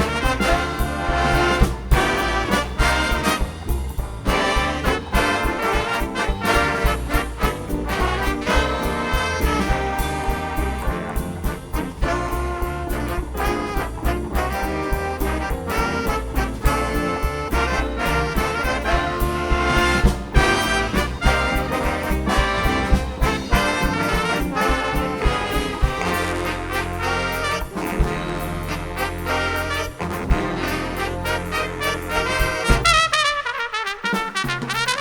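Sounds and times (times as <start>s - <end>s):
big band playing swing jazz: 0.0s - 35.0s.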